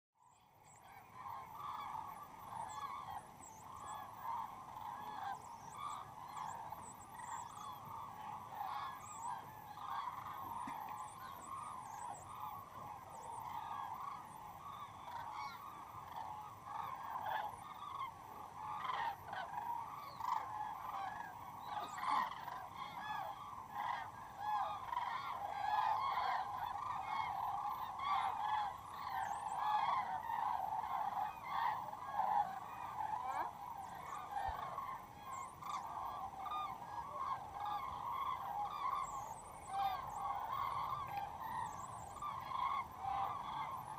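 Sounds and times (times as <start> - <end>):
flock of cranes calling: 0.2 - 43.9.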